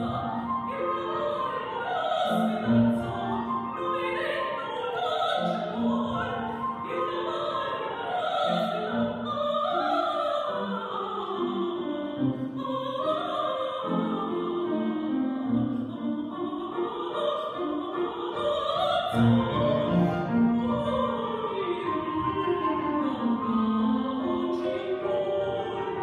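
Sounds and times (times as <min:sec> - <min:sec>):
grand piano: 0:00.0 - 0:26.0
woman singing opera: 0:00.0 - 0:26.0.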